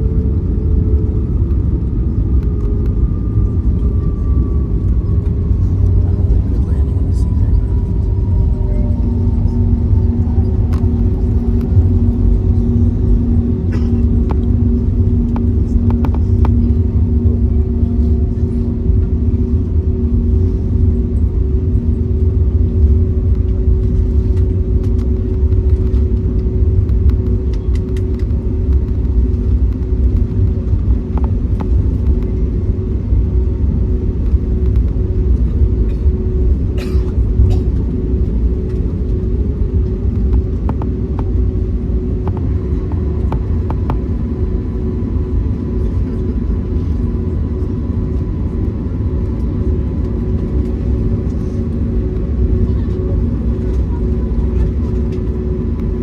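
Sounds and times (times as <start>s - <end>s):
aircraft cabin rumble: 0.0s - 56.0s
lower hum: 0.0s - 56.0s
steady hum: 0.0s - 56.0s.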